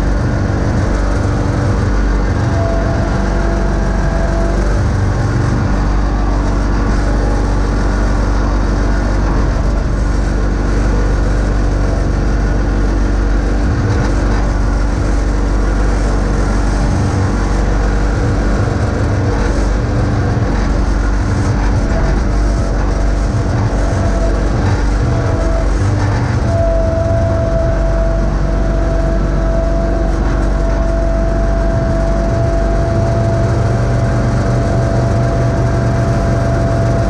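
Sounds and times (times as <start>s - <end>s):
lawn tractor engine running: 0.0s - 37.0s.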